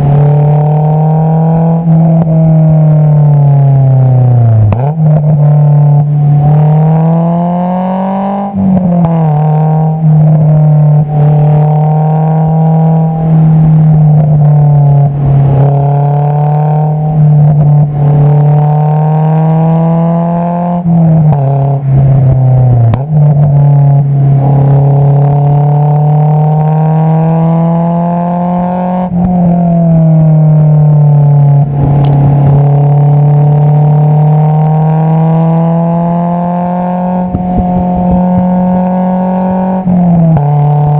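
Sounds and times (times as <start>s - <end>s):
car exhaust accelerating: 0.0s - 40.9s.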